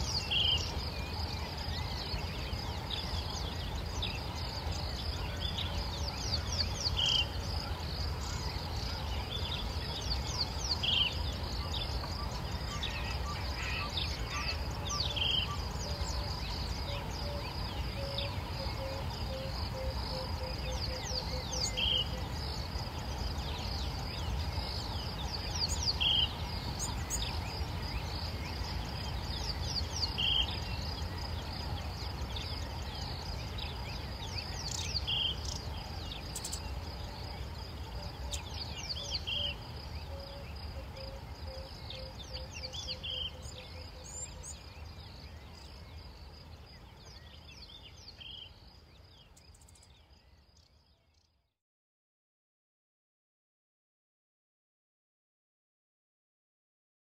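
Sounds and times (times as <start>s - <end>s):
high insect drone: 0.0s - 50.3s
bird chirps: 0.0s - 51.4s.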